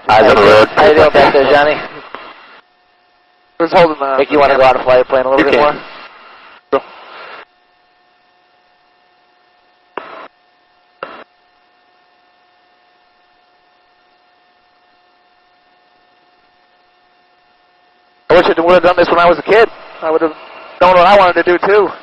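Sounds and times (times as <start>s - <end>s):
faint electrical hum and hiss: 0.0s - 22.0s.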